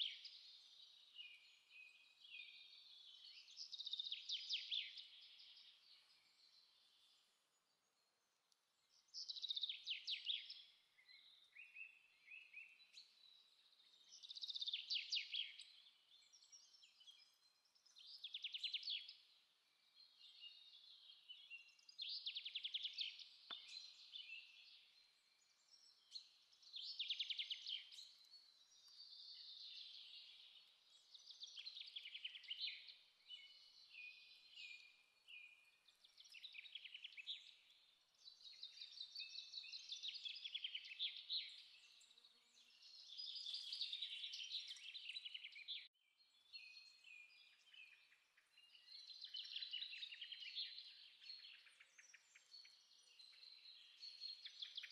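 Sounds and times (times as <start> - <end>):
songbirds trilling and chirping: 0.0 - 54.9.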